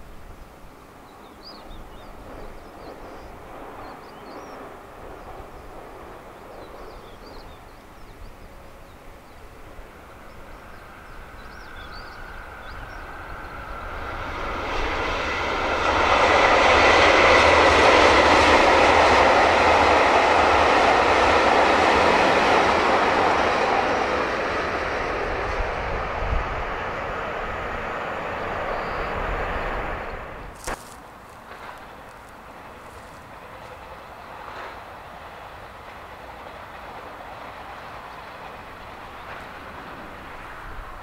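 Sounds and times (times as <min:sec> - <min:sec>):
diesel train passing: 0:00.0 - 0:41.0.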